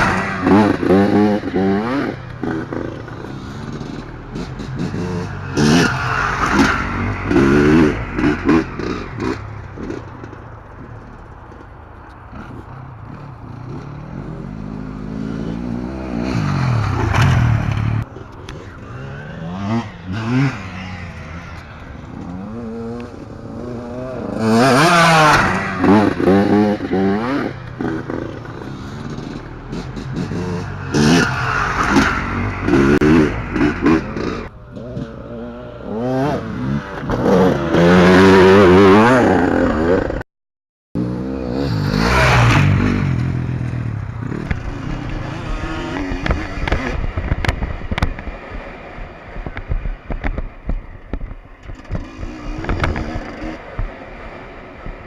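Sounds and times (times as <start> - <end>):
motocross bikes revving by: 0.0 - 40.2, 41.0 - 55.0.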